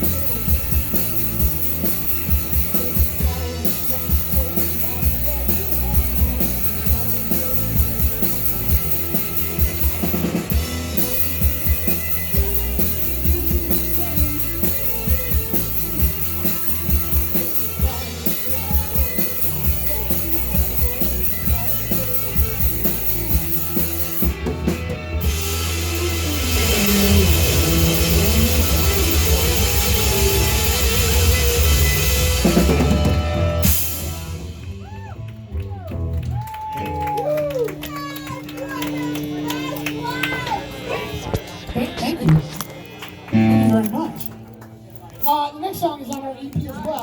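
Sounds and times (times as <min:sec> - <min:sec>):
drum kit beat: 0:00.0 - 0:40.2, 0:43.4 - 0:44.3
rock band playing: 0:00.0 - 0:46.5
electric guitars: 0:00.0 - 0:47.0.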